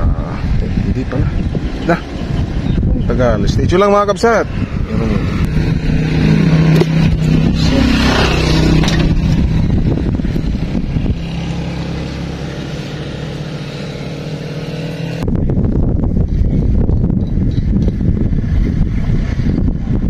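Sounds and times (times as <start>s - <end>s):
vehicle engine running: 0.0s - 20.0s
wind noise on microphone: 0.0s - 20.0s.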